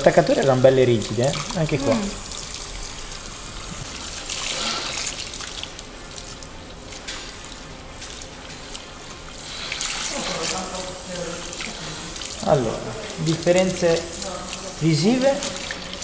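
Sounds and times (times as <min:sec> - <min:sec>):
shower sprayer water splashing: 0:00.0 - 0:16.0.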